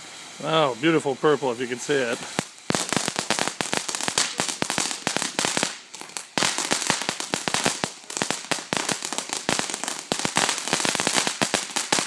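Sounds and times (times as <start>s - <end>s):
firework fountain crackling: 0.0s - 12.0s
firework hissing: 0.0s - 12.0s.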